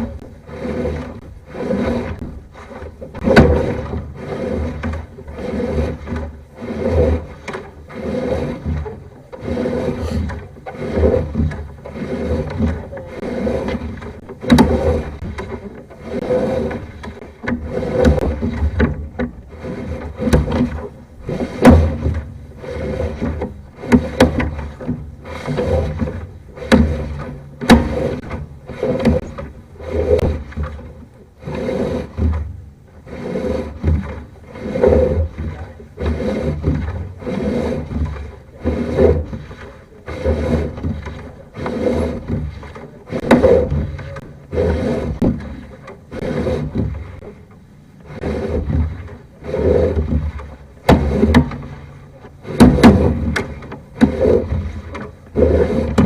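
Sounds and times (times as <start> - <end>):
cable rubbing and knocking: 0.0 - 56.0.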